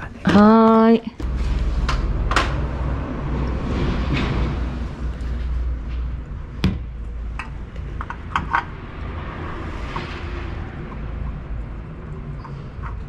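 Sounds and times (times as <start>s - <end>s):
steady low hum: 1.1s - 13.0s.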